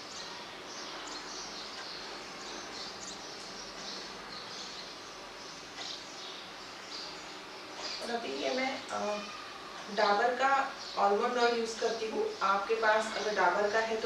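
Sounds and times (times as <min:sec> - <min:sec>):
faint high chirping: 0:00.0 - 0:14.0.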